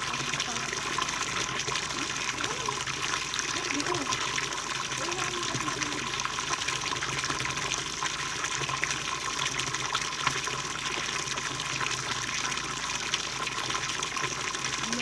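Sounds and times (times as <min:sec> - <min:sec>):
running river water: 0:00.0 - 0:15.0
small water splashes: 0:00.0 - 0:15.0.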